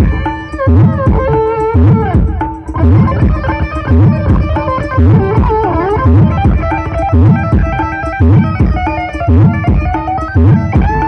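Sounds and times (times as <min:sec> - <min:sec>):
heavy bass beat: 0:00.0 - 0:11.0
loud music over speakers: 0:00.0 - 0:11.0.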